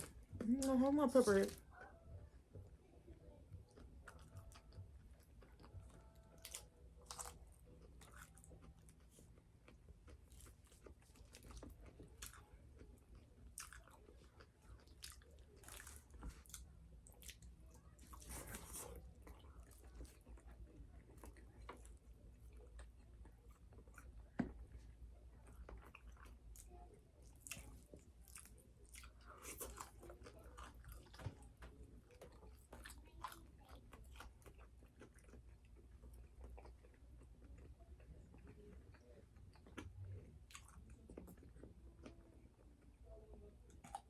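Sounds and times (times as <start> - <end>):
crunching and chewing fried chicken: 0.0 - 44.0.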